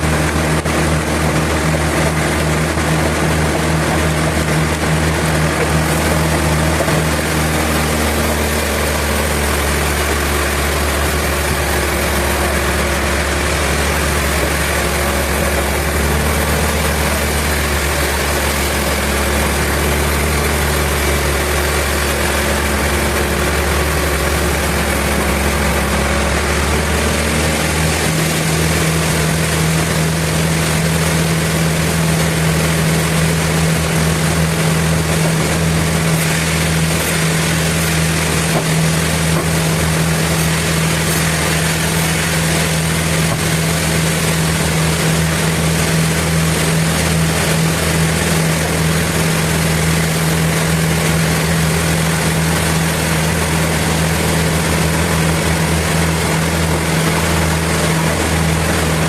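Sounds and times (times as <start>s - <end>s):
low hum: 0.0s - 59.0s
sawmill machinery droning: 0.0s - 59.0s.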